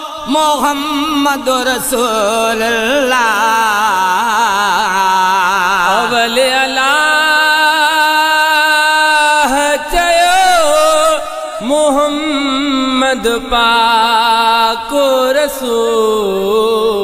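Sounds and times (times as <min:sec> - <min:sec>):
solo voice singing devotional song: 0:00.0 - 0:17.0.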